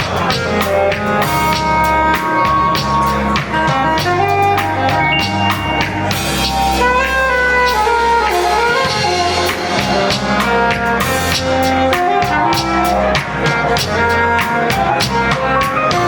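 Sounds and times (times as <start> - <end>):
bass line: 0.0 - 16.0
drum kit keeping time: 0.0 - 16.0
sliding melodic lead line: 0.0 - 16.0.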